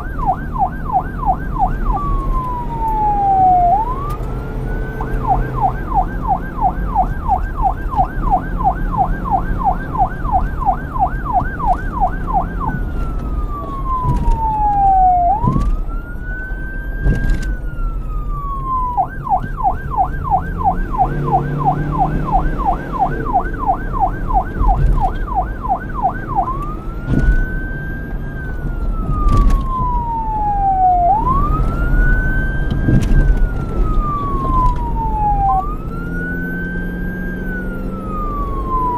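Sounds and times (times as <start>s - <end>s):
electronic police siren: 0.0s - 38.9s.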